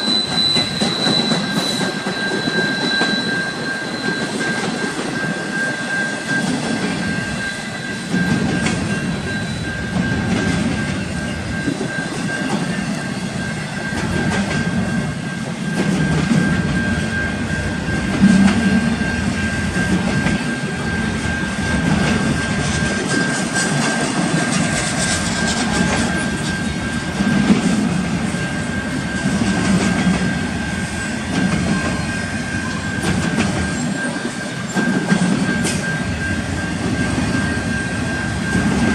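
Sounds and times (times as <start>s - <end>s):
train wheels clicking on rails: 0.0s - 38.9s.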